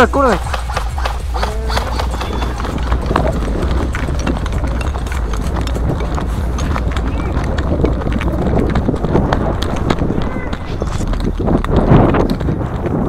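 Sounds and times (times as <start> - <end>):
running footsteps on grass and dirt: 0.0 - 13.0
steady low rumble: 0.0 - 13.0.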